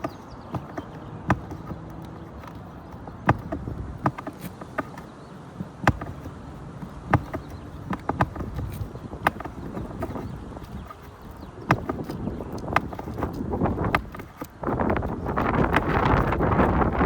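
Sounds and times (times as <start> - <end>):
hand tool knocking on shingle roof: 0.0 - 17.0.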